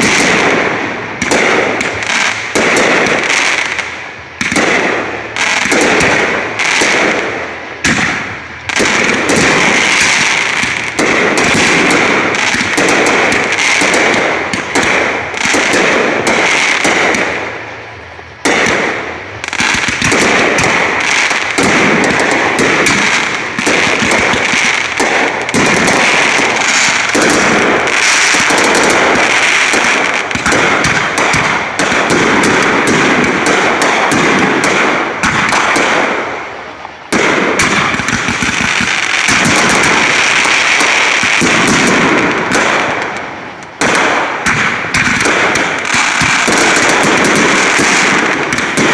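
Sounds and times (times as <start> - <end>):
fireworks crackling bangs: 0.0 - 48.9.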